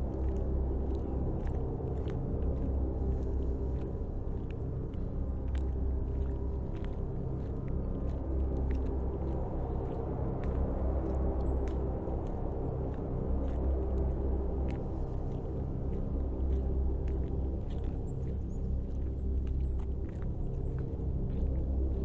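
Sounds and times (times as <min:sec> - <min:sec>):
wind rumble on microphone: 0:00.0 - 0:22.0
footsteps crunching on wet asphalt: 0:00.1 - 0:22.0.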